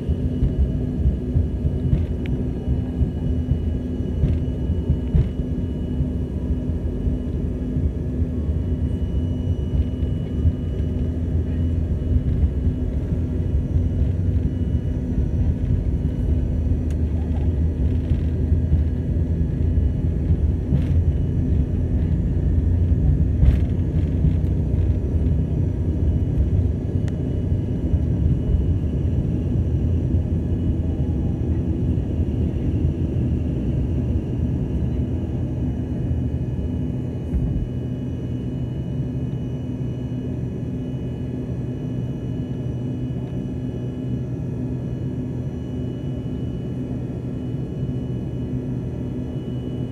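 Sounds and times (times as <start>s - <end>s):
jet cabin rumble: 0.0s - 49.9s.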